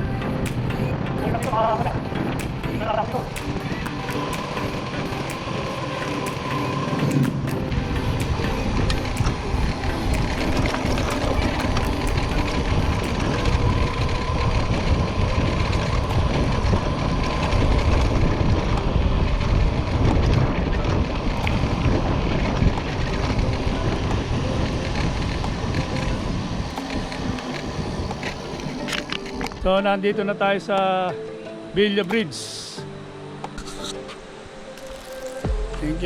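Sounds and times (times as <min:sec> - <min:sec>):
passing traffic noise: 0:00.0 - 0:29.7
wind rush over microphone: 0:00.0 - 0:29.7.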